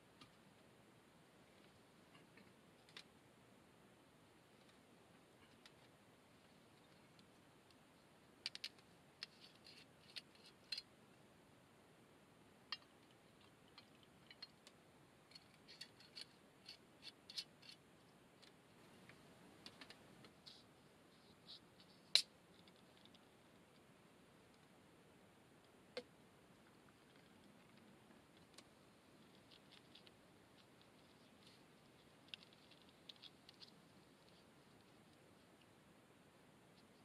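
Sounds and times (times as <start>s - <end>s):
faint small clicks and ticks: 0.1s - 0.4s, 1.5s - 3.2s, 4.5s - 10.9s, 12.7s - 24.8s, 25.6s - 35.8s.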